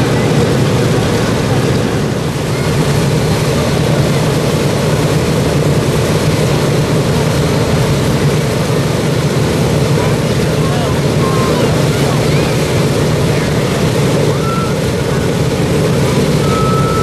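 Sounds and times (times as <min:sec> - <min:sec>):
radial piston engines rumbling: 0:00.0 - 0:17.0.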